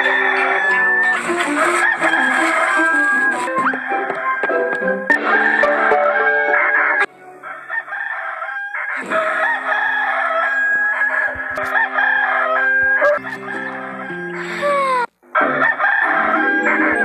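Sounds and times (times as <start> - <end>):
rooster crowing: 0.0 - 4.4, 5.1 - 17.0
background music: 0.0 - 7.7, 9.3 - 17.0.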